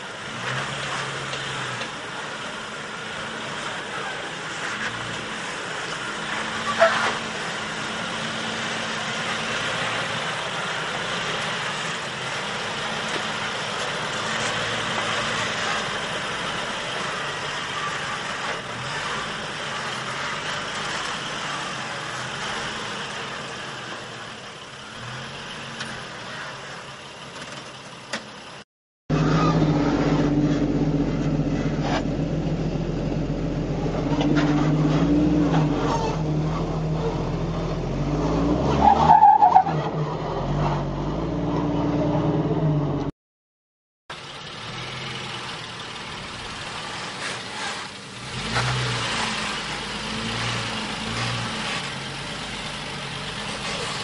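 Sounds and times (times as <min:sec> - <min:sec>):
close engine revving: 0:00.0 - 0:27.2, 0:29.1 - 0:43.1, 0:44.1 - 0:54.0.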